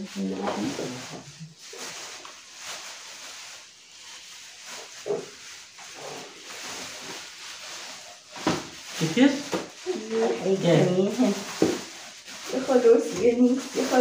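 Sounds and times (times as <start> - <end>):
plastic packaging crinkling: 0.1 - 14.0.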